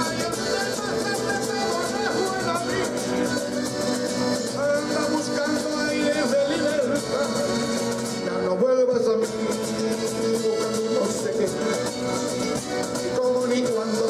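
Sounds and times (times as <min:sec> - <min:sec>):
latin-style music with steady beat: 0:00.0 - 0:14.0.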